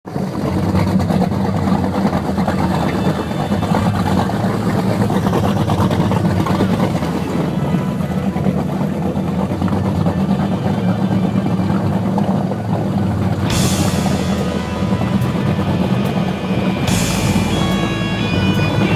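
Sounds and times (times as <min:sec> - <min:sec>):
powerboat engines droning: 0:00.1 - 0:18.9.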